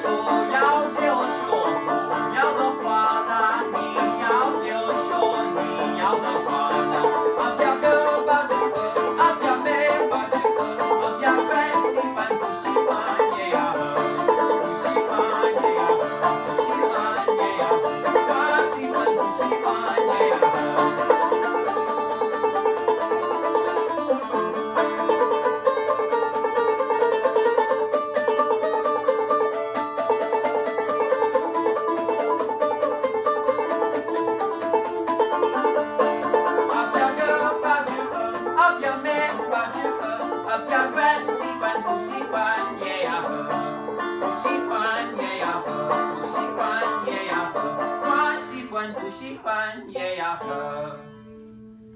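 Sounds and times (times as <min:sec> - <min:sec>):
banjo playing a brisk tune: 0:00.0 - 0:51.8.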